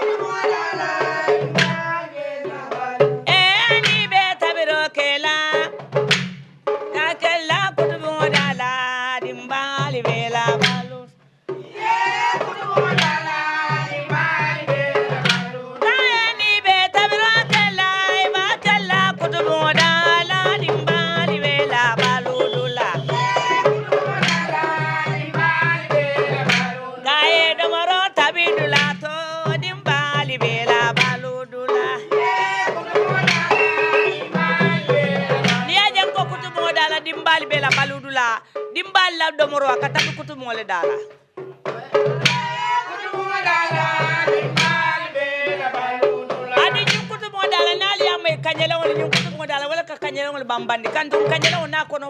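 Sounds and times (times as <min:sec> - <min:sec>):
singing over hand drums: 0:00.0 - 0:52.0.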